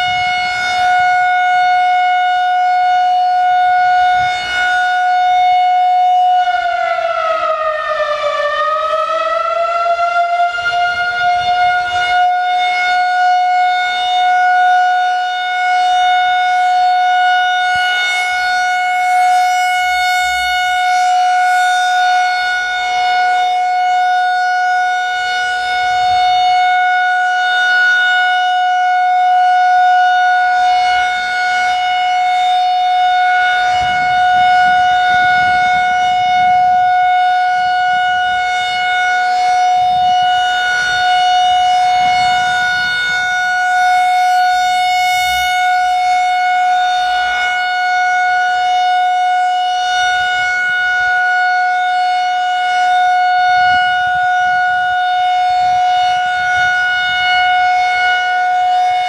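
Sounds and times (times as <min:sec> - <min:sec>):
warning siren steady tone: 0:00.0 - 0:59.0.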